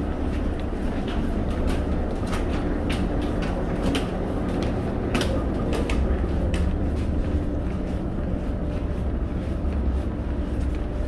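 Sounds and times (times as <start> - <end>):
ferry engines humming: 0.0 - 11.0
footsteps on deck: 0.2 - 11.0.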